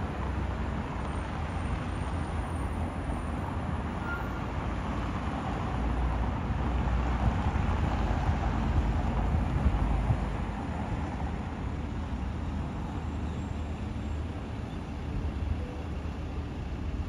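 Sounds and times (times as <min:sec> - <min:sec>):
passing cars rumbling: 0:00.0 - 0:15.6.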